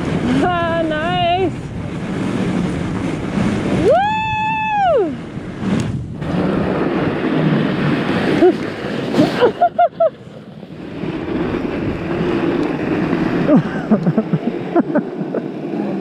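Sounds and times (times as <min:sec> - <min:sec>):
bike tyres rushing over snow: 0:00.0 - 0:16.0
wind on microphone: 0:00.0 - 0:16.0.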